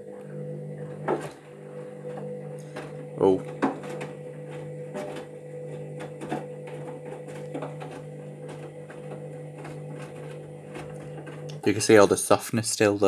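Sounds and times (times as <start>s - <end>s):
washing machine filling with water: 0.0s - 12.1s.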